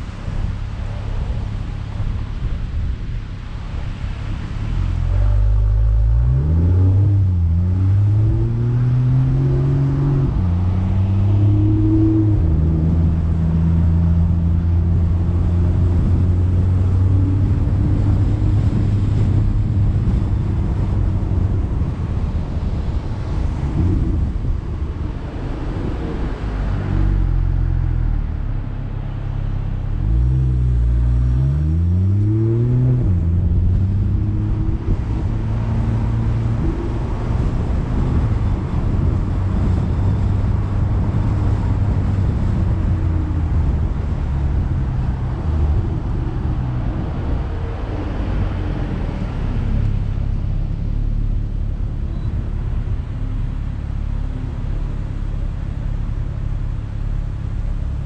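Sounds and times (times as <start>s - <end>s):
tyre and road noise: 0.0s - 58.0s
car engine revving: 3.4s - 58.0s.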